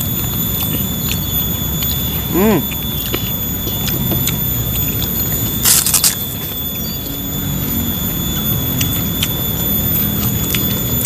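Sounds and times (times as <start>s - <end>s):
cracker crunching: 0.0s - 11.0s
soft chewing: 0.0s - 11.0s
steady high whine: 0.0s - 11.0s.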